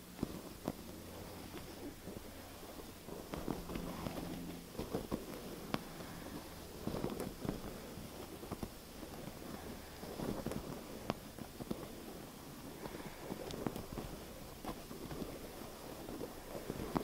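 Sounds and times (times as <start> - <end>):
scratching on objects: 0.0 - 17.0.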